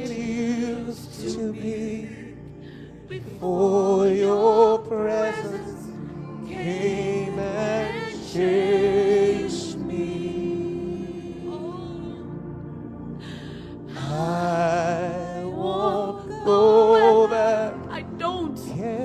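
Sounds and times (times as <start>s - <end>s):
person singing with vibrato: 0.0s - 2.5s, 3.1s - 12.3s, 13.3s - 19.0s
sustained chords: 0.0s - 19.0s.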